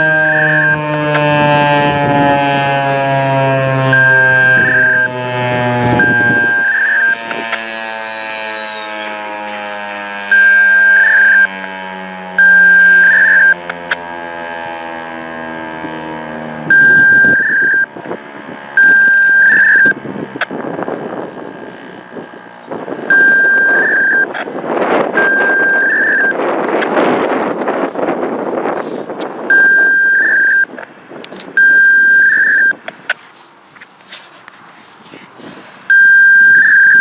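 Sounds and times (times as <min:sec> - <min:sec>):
wind noise: 0:00.0 - 0:09.2, 0:15.5 - 0:37.0
warning siren winding down: 0:00.0 - 0:28.8, 0:29.4 - 0:30.8, 0:31.4 - 0:32.8, 0:35.9 - 0:37.0.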